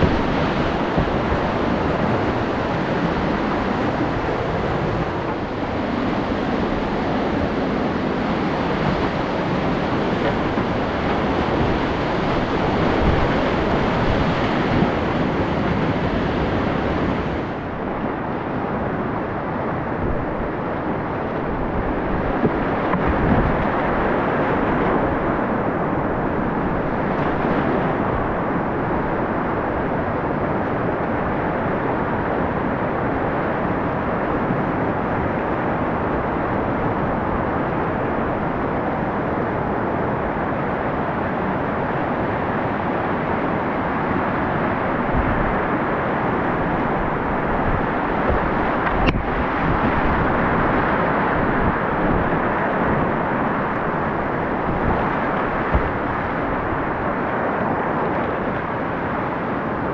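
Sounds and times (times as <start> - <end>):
river rapids rushing: 0.0 - 59.9.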